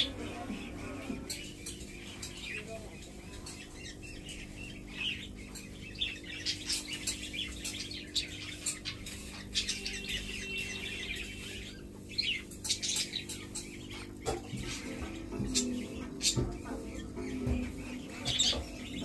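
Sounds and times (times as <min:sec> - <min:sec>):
parakeet chirping and squeaking: 0:00.0 - 0:19.0.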